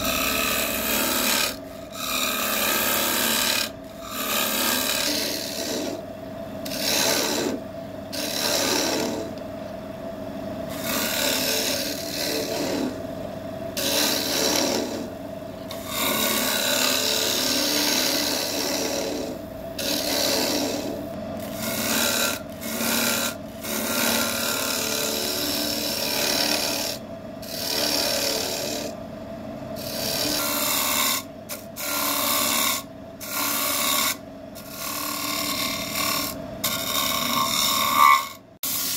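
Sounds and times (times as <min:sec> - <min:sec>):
turning tool cutting wood: 0:00.0 - 0:06.0, 0:06.6 - 0:09.4, 0:10.7 - 0:13.0, 0:13.8 - 0:15.1, 0:15.7 - 0:28.9, 0:29.8 - 0:38.9
wood lathe humming: 0:00.0 - 0:06.0, 0:06.6 - 0:09.4, 0:10.7 - 0:13.0, 0:13.8 - 0:28.9, 0:29.8 - 0:38.9.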